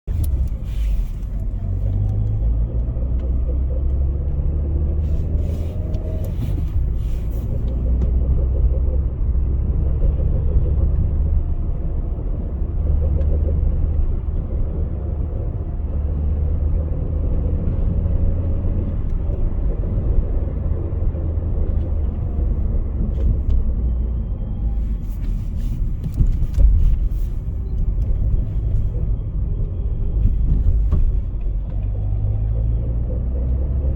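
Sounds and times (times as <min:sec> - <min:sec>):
car engine rumbling: 0:00.0 - 0:33.9.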